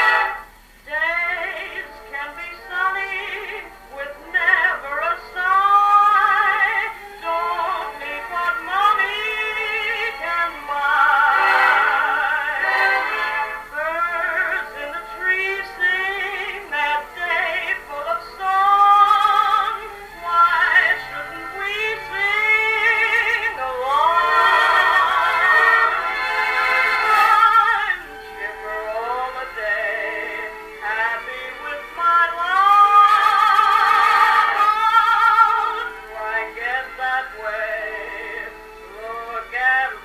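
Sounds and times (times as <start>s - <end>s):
woman singing with dance orchestra: 0.0s - 40.0s.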